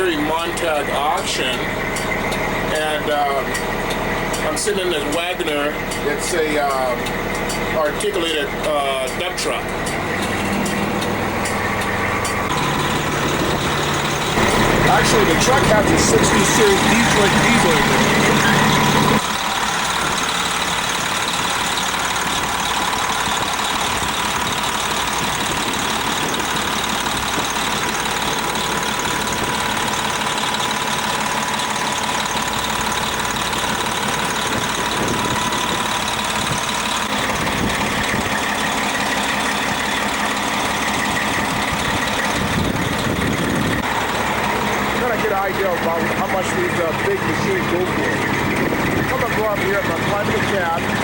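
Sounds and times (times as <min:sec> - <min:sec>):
dump truck engine idling: 0:00.0 - 0:51.0.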